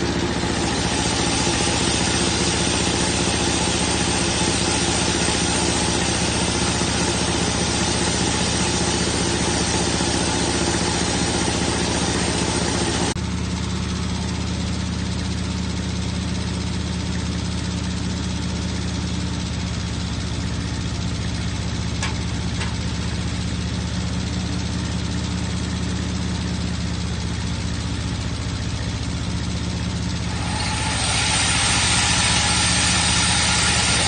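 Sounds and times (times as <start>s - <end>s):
sawmill engine idling: 0.0s - 34.0s.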